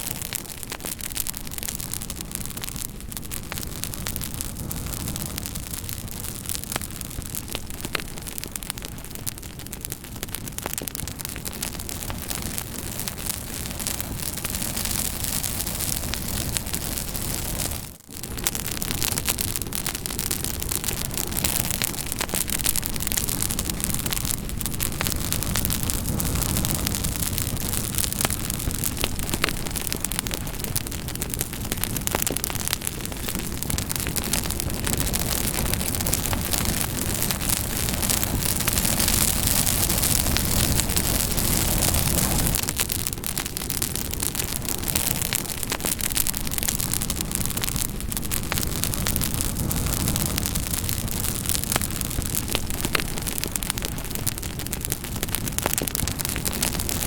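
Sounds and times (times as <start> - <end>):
campfire crackling and popping: 0.0 - 57.0
low roar of flames: 0.0 - 57.0.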